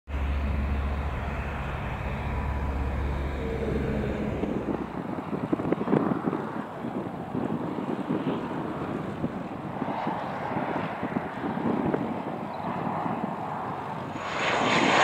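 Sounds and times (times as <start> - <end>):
propeller aircraft engine droning: 0.1 - 15.0
wind buffeting on microphone: 0.3 - 15.0.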